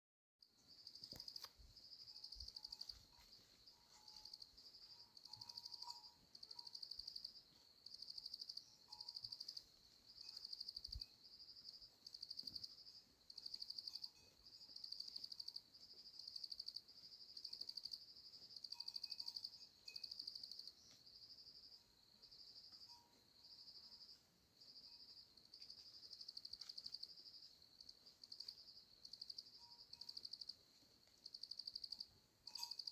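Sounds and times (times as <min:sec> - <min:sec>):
insects trilling: 0:00.7 - 0:21.6, 0:22.2 - 0:30.6, 0:31.2 - 0:32.9.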